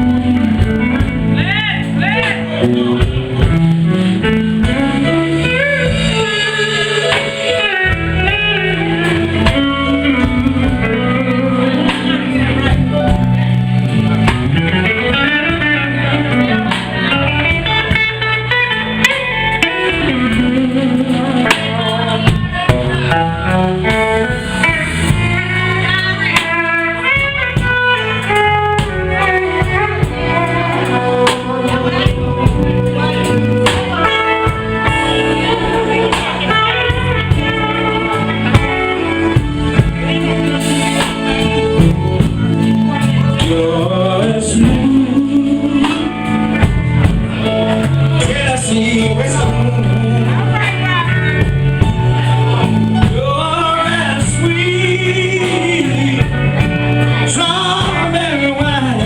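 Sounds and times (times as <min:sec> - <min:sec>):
guitar playing runs: 0:00.0 - 0:59.0
live blues band playing: 0:00.0 - 0:59.0.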